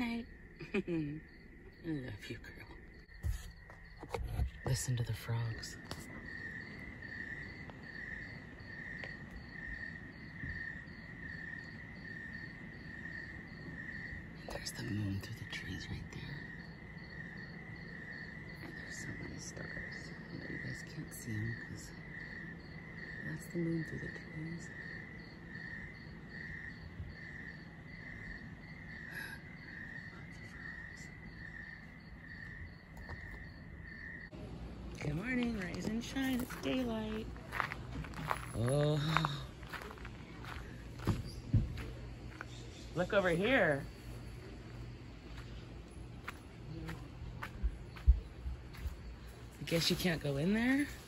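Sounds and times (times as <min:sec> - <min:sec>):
crickets chirping: 0:00.0 - 0:51.0
frogs pulsing call: 0:00.0 - 0:51.0.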